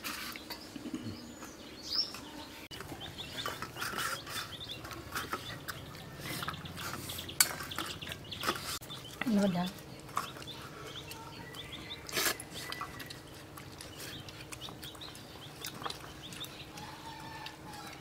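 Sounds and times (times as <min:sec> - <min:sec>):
small birds chirping: 0:00.2 - 0:18.0.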